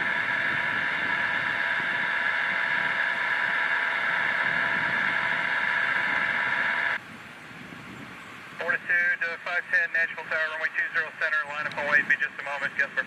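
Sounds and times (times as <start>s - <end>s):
jet turbine engines whining: 0.0s - 7.0s, 8.4s - 13.0s.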